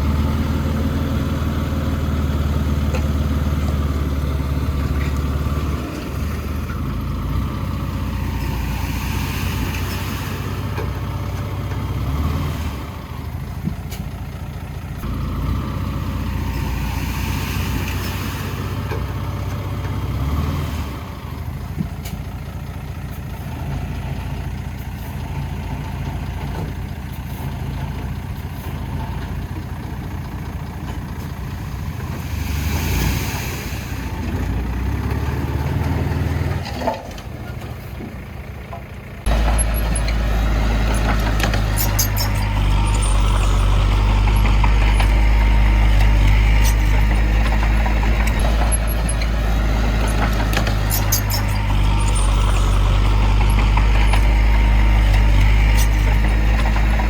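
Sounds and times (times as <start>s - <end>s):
heavy machinery diesel engines: 0.0s - 57.0s
loud deep engine running: 0.0s - 57.0s.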